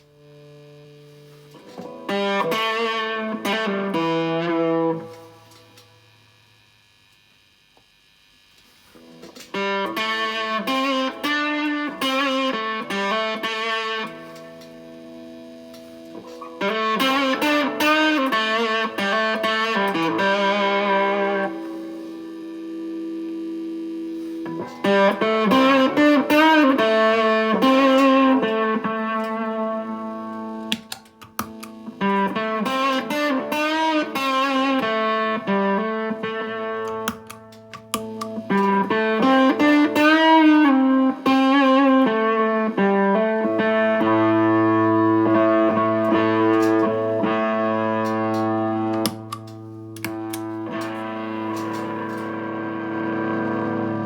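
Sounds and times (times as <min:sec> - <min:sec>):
fuzz electric guitar riffs and chords: 0:00.0 - 0:54.0.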